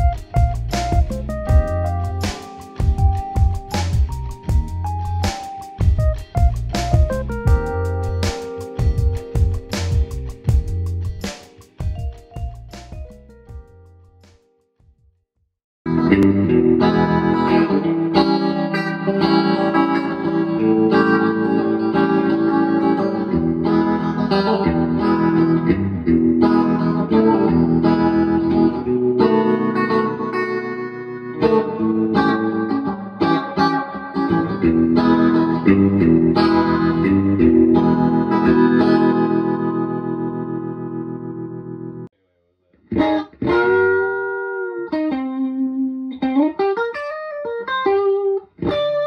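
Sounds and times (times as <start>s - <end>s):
electric guitar through amplifier: 0.0s - 12.6s, 15.9s - 42.1s, 42.8s - 49.0s.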